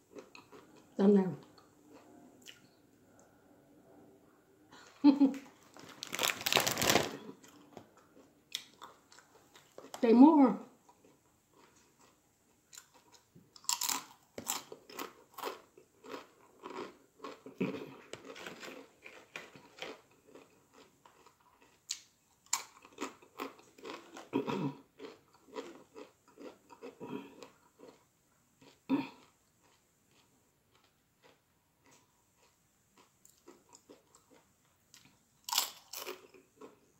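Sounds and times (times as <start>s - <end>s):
chewing crunchy chips: 0.1s - 2.7s, 5.5s - 10.0s, 10.8s - 36.9s.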